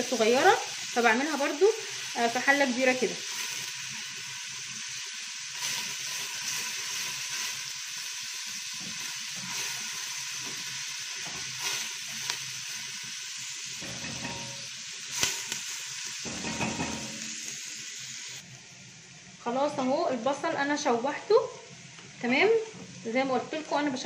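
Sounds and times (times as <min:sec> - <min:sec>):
onion sizzling in hot fat: 0:00.0 - 0:24.0.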